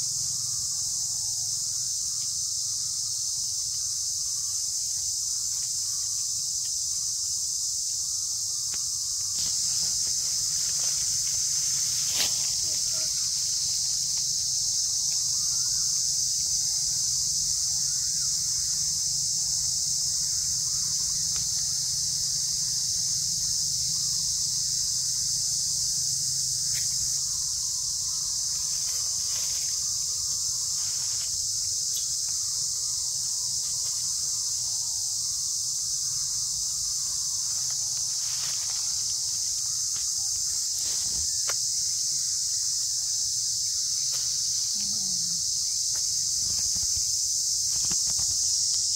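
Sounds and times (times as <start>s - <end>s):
insect chorus: 0.0s - 48.9s.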